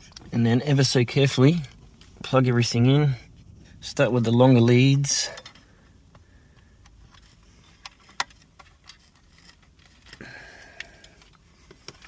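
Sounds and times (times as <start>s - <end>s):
cables rustling: 1.7s - 12.0s.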